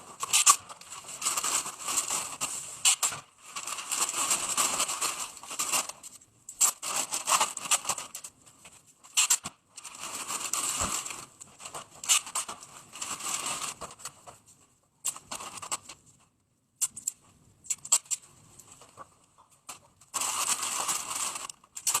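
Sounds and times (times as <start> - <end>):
plastic and tape crinkling and tearing: 0.0 - 16.2, 16.8 - 22.0.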